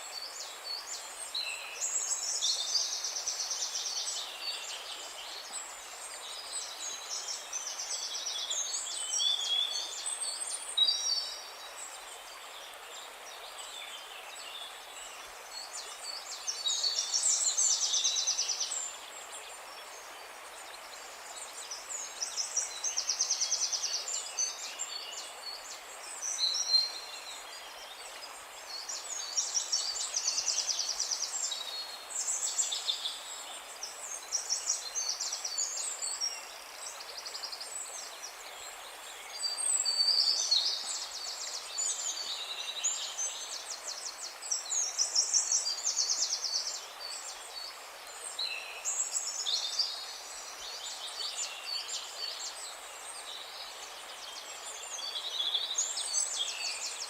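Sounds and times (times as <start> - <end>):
faint outdoor hiss: 0.0 - 57.0
songbirds singing: 0.0 - 57.0.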